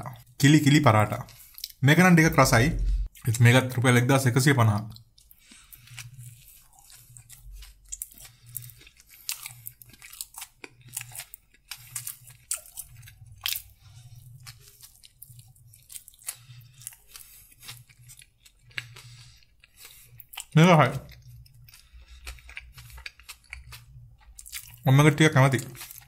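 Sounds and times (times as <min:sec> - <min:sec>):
person chewing sandwich: 0:01.1 - 0:03.3, 0:04.9 - 0:26.0.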